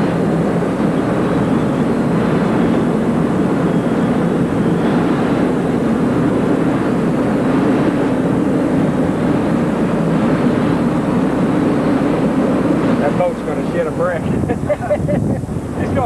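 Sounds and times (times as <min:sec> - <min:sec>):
rushing air: 0:00.0 - 0:16.0
ultralight aircraft cockpit drone: 0:00.0 - 0:16.0.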